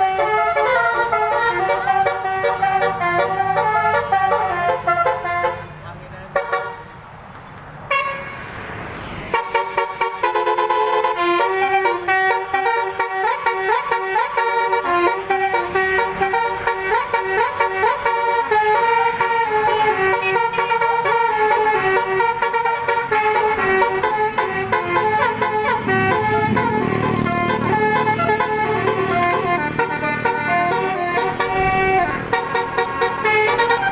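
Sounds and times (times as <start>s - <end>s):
multi-tone horn melody: 0.0s - 7.0s, 7.9s - 8.5s, 9.2s - 33.9s.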